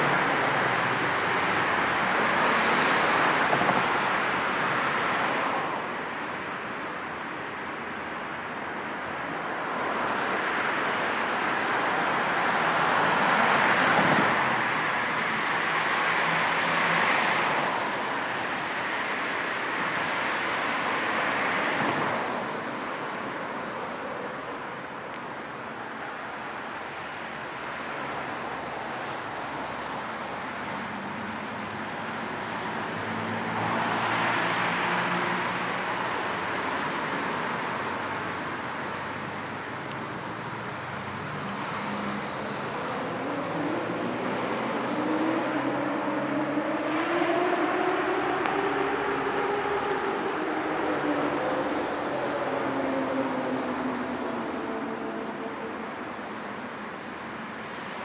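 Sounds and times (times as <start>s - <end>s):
cars passing: 0.0s - 58.0s
steady traffic hum: 0.0s - 58.0s.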